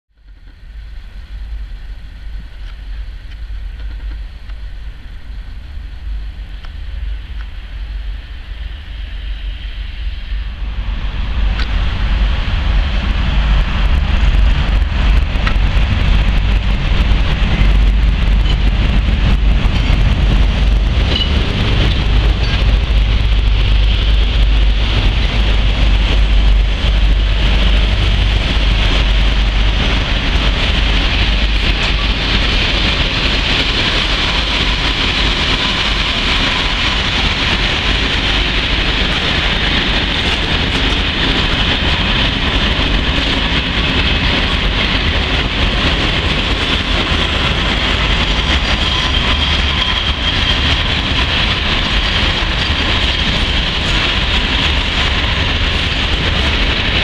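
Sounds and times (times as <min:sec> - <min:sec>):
freight train rumbling past: 0:00.2 - 0:57.0.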